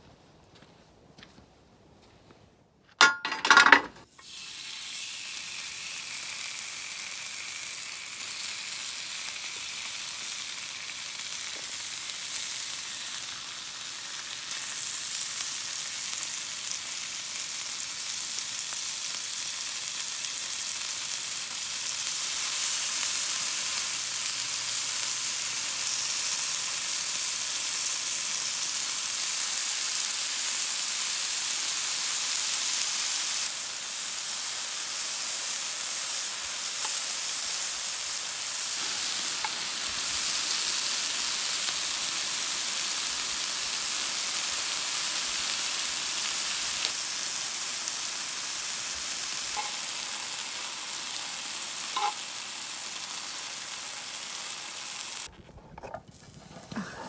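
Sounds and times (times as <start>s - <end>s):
beef sizzling on grill pan: 4.1s - 55.3s.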